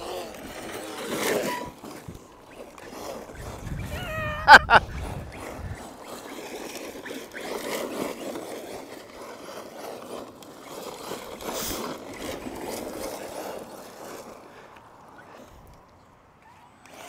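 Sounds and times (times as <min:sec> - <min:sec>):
rc truck driving over gravel: 0:00.0 - 0:17.0.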